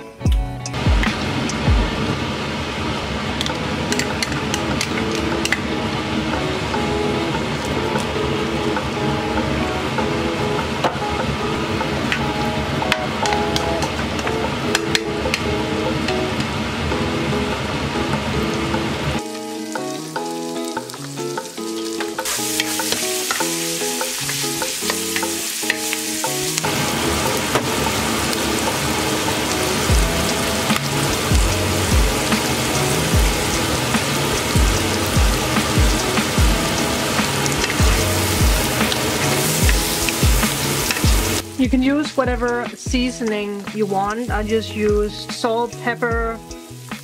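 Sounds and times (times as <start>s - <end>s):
vegetables sizzling in oil: 0.8s - 47.0s.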